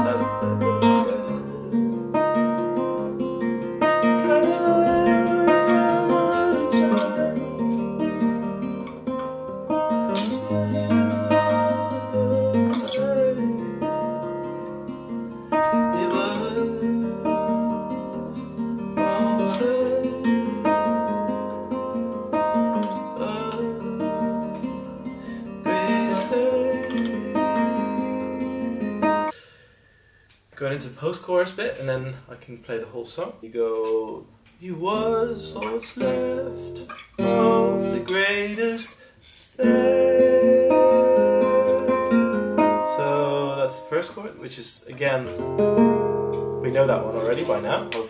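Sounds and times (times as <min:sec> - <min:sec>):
fingerpicked classical guitar: 0:00.0 - 0:29.4, 0:33.8 - 0:48.0.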